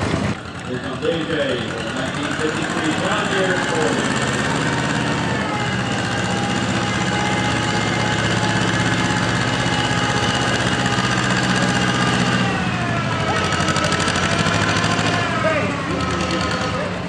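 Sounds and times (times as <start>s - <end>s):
tractor engine chugging: 0.0s - 17.0s.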